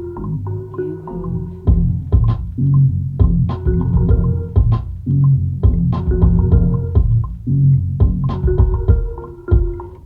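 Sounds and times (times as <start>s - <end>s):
sustained melodic line: 0.0s - 7.5s, 8.4s - 10.0s
heavy bass notes: 0.0s - 9.8s.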